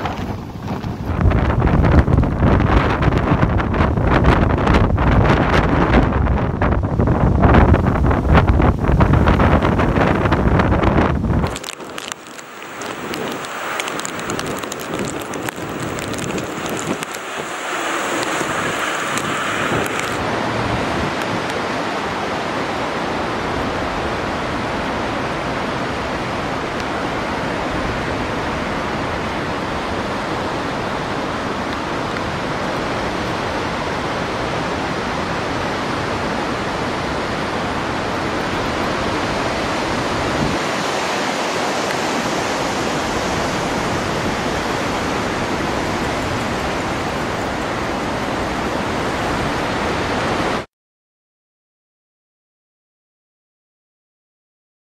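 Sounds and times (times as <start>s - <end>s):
rain: 0.0s - 50.7s
storm wind buffeting microphone: 0.0s - 50.7s.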